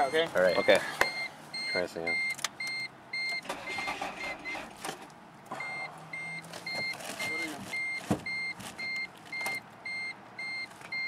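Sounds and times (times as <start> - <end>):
car warning chime beeping: 0.0 - 4.7, 5.6 - 11.0.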